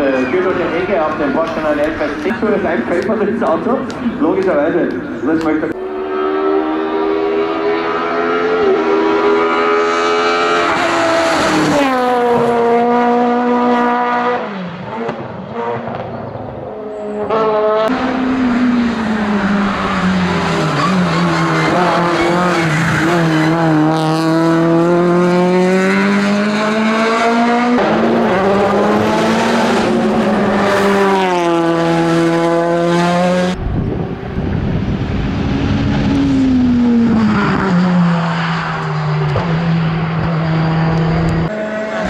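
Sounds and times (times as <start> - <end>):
race car engines at high revs: 5.7 - 42.0.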